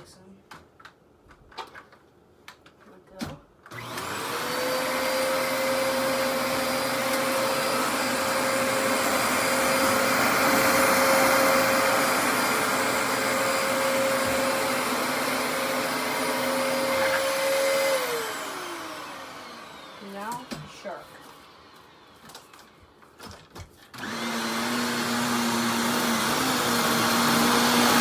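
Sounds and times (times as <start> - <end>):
vacuum cleaner motor whining: 3.7 - 28.0.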